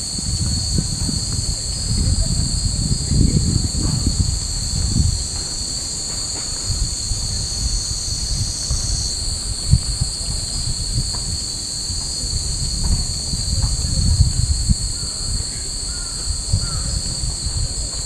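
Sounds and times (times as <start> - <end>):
cicadas droning: 0.0 - 18.0
wind rumble on microphone: 0.0 - 18.0.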